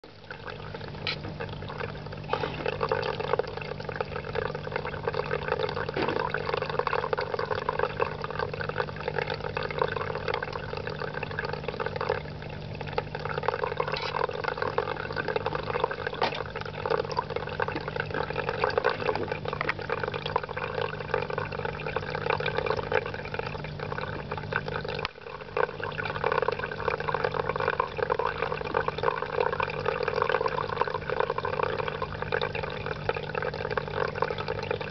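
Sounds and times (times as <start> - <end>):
aquarium water trickling and bubbling: 0.0 - 34.9
low pump hum: 0.0 - 34.9.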